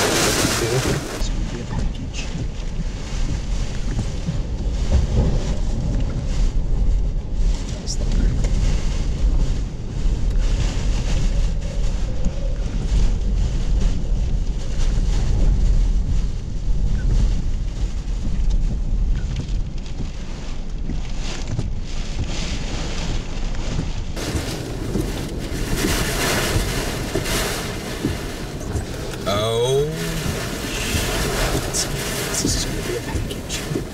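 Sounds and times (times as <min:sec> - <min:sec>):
wind and rain buffeting a car: 0:00.0 - 0:33.9.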